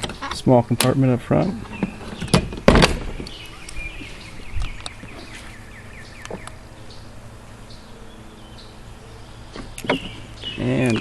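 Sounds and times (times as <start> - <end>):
birds chirping: 0.0 - 11.0
low steady hum: 0.0 - 11.0.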